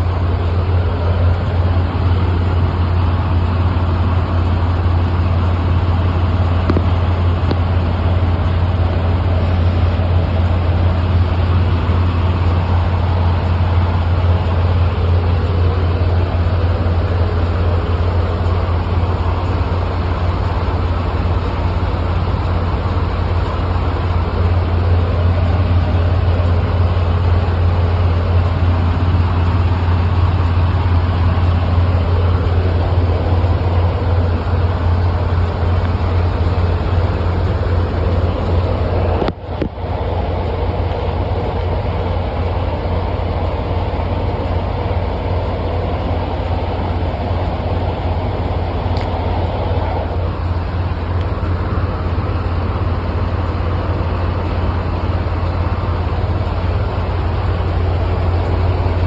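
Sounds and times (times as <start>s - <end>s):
diesel truck engine droning: 0.0s - 59.0s.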